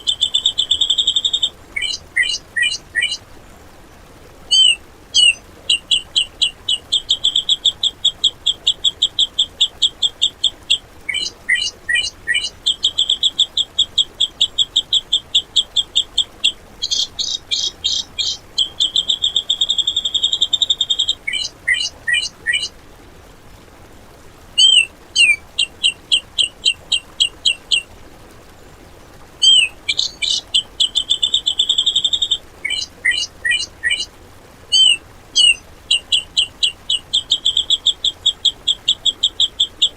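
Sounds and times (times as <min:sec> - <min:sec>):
bird singing rapid whistled notes: 0:00.0 - 0:03.2, 0:04.5 - 0:22.7, 0:24.6 - 0:27.9, 0:29.4 - 0:34.1, 0:34.7 - 0:39.9.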